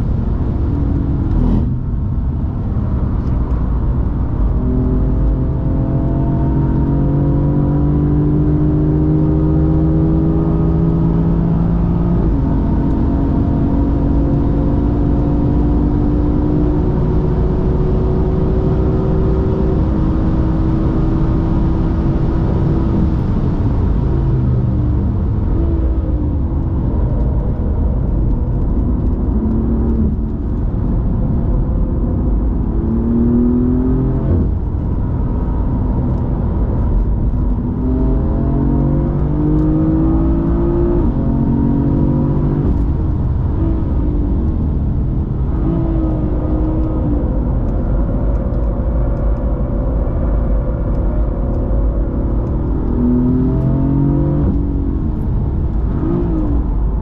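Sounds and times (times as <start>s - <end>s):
road and drivetrain rumble: 0.0s - 57.0s.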